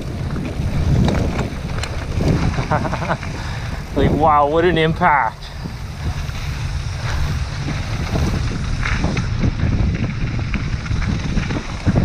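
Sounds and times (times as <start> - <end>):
bike clicking and rattling: 0.0 - 12.0
tyres rumbling on dirt: 0.0 - 12.0
wind buffeting microphone: 0.0 - 12.0.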